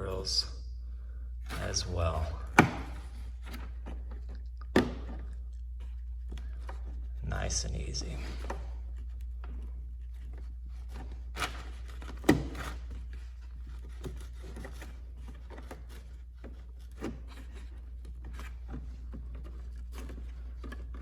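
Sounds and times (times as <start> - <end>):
plastic scraping and rubbing: 1.4 - 7.2, 7.9 - 21.0.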